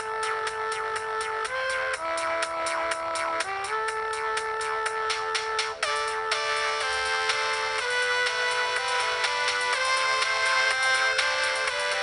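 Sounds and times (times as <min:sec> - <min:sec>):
clicking beat: 0:00.0 - 0:12.0
electronic ringtone melody: 0:00.0 - 0:12.0.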